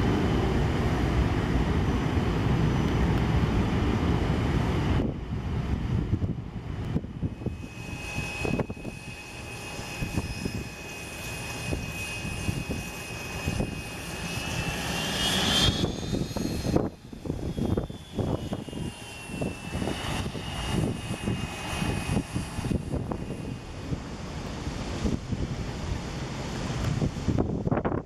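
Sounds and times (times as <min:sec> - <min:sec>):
jet taxiing with high whine: 0:00.0 - 0:28.0.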